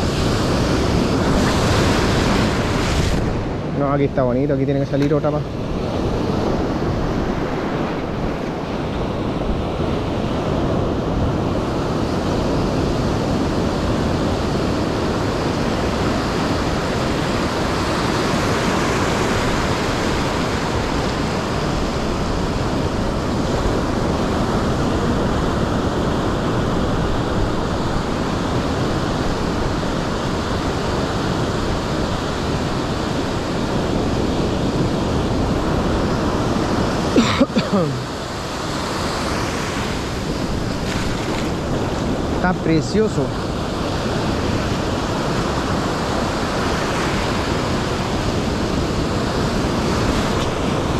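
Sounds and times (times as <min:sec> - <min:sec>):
ocean surf breaking on sand: 0:00.0 - 0:50.9.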